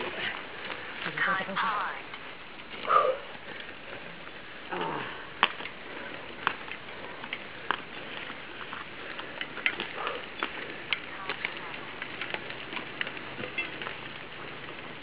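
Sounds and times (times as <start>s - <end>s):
bike clicks and knocks on stones: 0.0s - 15.0s.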